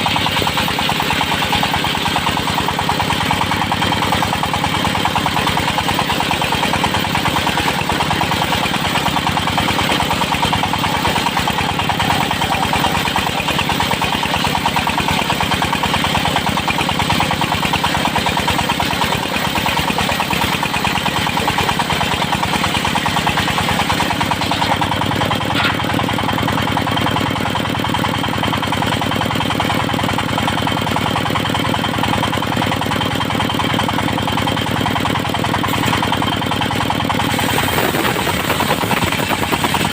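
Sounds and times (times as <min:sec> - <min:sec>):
engine-driven circular sawmill: 0:00.0 - 0:39.9.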